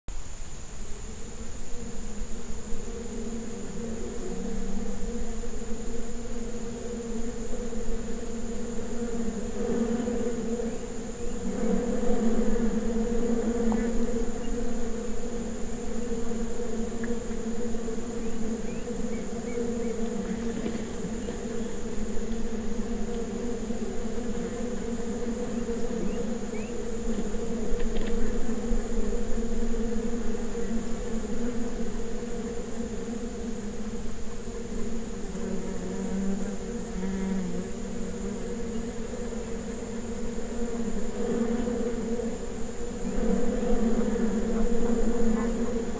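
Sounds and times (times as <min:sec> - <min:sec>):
insect buzzing: 0:00.1 - 0:45.9.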